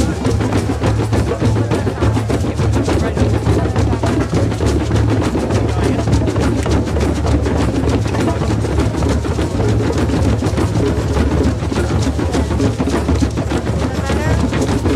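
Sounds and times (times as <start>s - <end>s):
hand drums playing fast beat: 0.0s - 14.9s.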